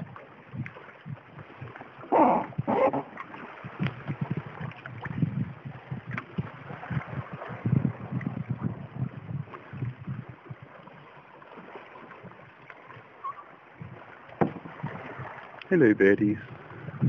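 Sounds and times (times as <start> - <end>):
kayak paddle strokes: 0.0 - 17.0
water lapping around hull: 0.0 - 17.0.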